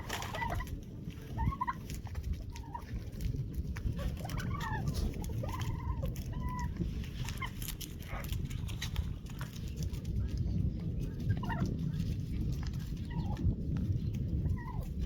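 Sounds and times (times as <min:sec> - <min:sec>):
low rumble: 0:00.0 - 0:15.0
poultry clucking: 0:00.0 - 0:15.0.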